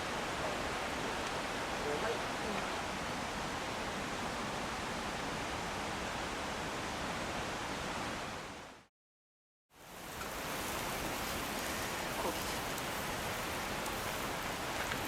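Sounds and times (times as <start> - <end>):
river rushing: 0.0 - 8.9, 9.8 - 15.0.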